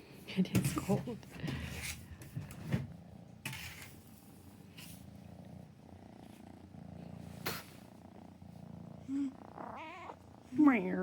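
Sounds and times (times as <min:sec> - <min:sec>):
kitten purring: 0:01.6 - 0:11.0.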